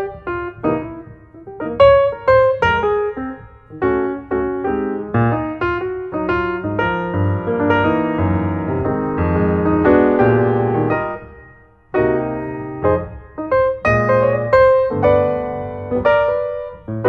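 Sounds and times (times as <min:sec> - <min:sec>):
lively piano piece: 0:00.0 - 0:17.0.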